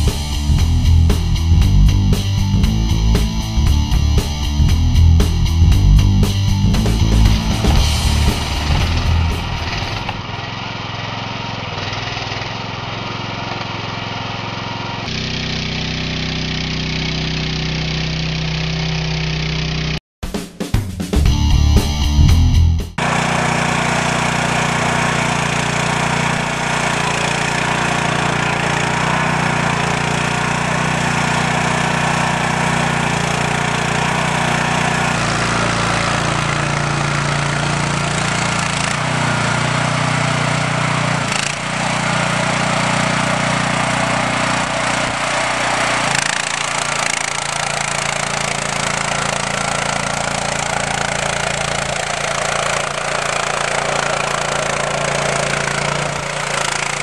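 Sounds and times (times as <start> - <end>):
small petrol engine droning: 0.0 - 20.0, 21.6 - 57.0.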